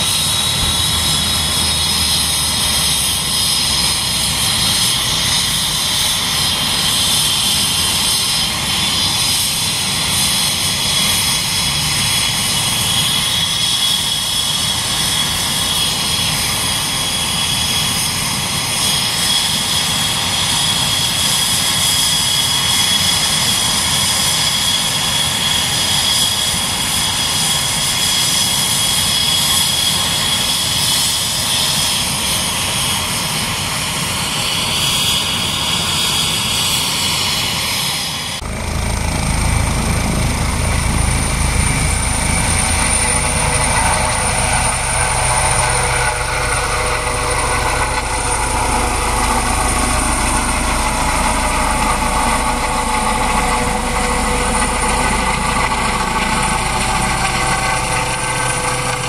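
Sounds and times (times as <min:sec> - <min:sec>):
helicopter engine and rotor running: 0:00.0 - 0:59.0.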